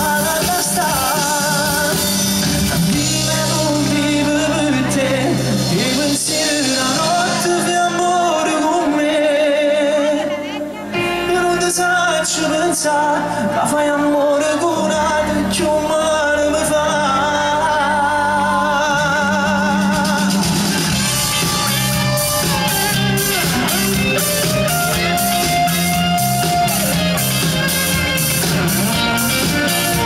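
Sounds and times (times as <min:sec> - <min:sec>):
man singing with vibrato: 0:00.0 - 0:30.0
pop band playing: 0:00.0 - 0:30.0.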